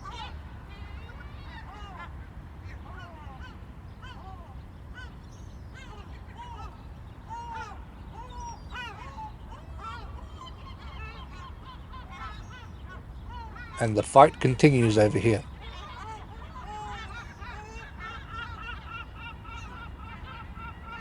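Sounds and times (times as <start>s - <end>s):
gulls calling harshly: 0.0s - 21.0s.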